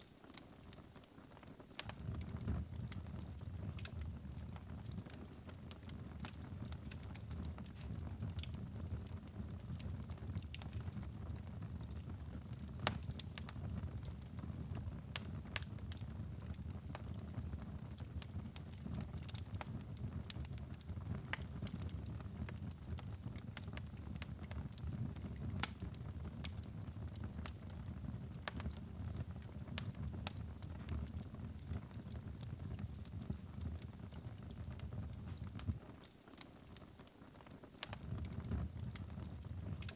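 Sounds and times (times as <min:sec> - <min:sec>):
fire crackling and popping: 0:00.0 - 0:39.9
low rumble of flames: 0:01.8 - 0:35.9, 0:37.5 - 0:39.9.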